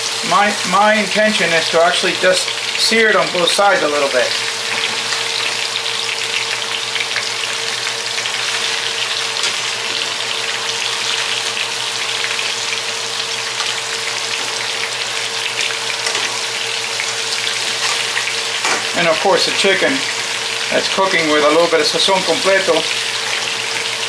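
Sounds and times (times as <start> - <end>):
chicken sizzling in hot fat: 0.0 - 24.0.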